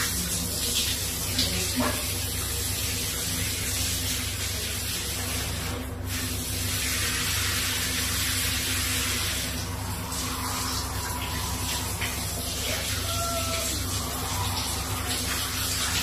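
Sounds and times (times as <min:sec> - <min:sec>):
shower head spraying water: 0:00.0 - 0:16.0.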